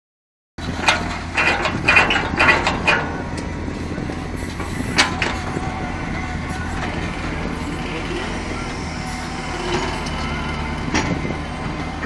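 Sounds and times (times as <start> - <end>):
diesel engine running: 0.6 - 12.0.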